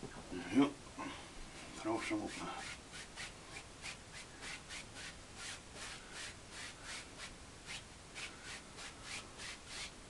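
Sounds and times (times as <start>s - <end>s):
paint brush scrubbing strokes: 1.6s - 9.9s.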